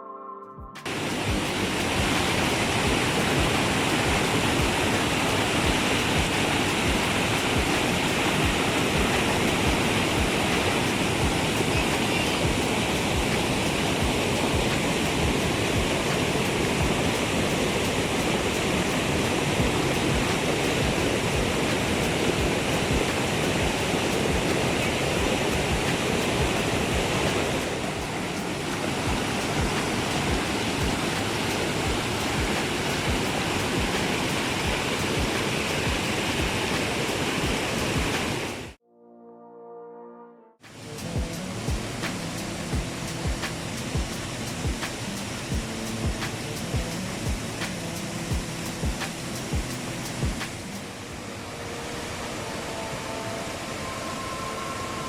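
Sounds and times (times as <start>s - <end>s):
waterfall rushing: 0.8s - 38.8s, 40.6s - 55.0s.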